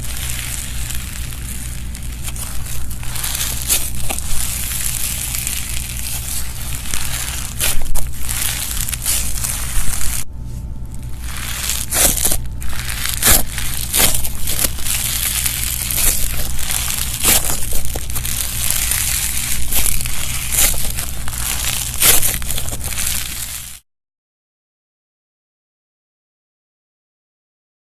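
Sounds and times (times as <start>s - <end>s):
slime squeezed crackling: 0.0s - 10.3s, 10.9s - 23.8s.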